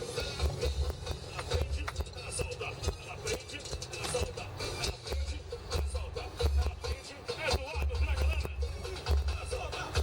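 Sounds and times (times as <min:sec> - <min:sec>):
music with heavy bass beat: 0:00.0 - 0:10.0
person singing: 0:01.3 - 0:10.0.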